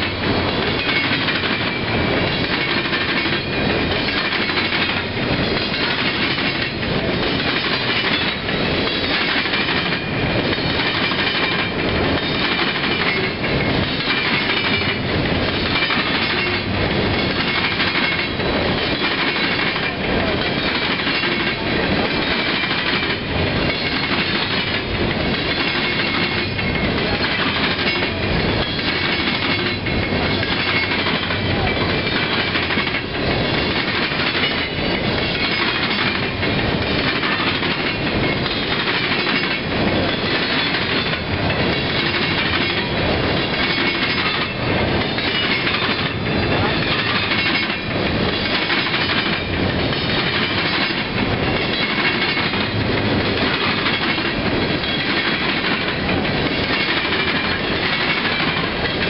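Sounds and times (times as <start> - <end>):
freight train rolling past: 0.0 - 59.0
wheels clacking over rail joints: 0.0 - 59.0.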